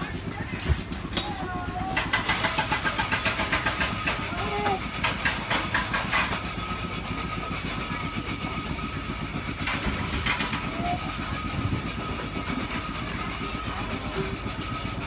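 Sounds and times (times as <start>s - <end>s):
outdoor market rumble: 0.0s - 15.0s.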